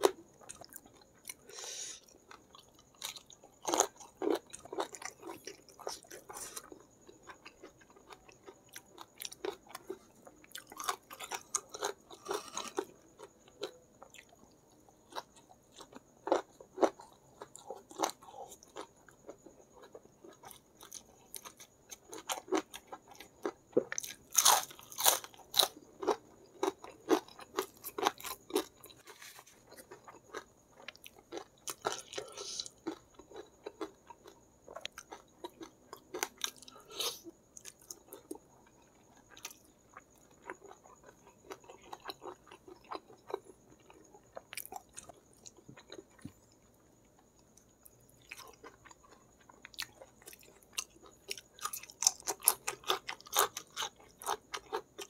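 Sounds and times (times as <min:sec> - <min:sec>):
crunchy chewing of food: 0:00.0 - 0:55.0.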